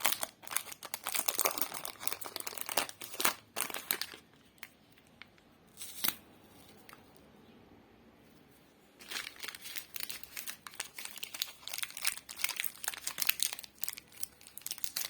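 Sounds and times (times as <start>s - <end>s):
plastic wrapper crinkling: 0.0s - 7.2s, 9.0s - 15.0s.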